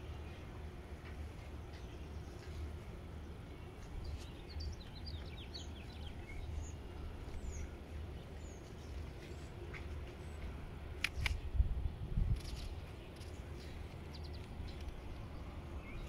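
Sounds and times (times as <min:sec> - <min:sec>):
songbird chirping: 0:00.0 - 0:11.6, 0:12.4 - 0:16.0
steady low rumble: 0:00.0 - 0:16.0.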